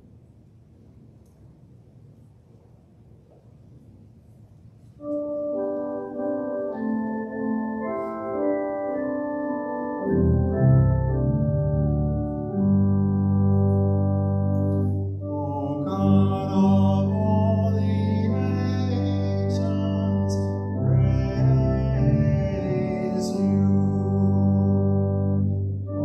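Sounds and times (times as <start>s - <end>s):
church organ chords: 5.0s - 26.0s
deep organ pedal bass notes: 5.0s - 26.0s.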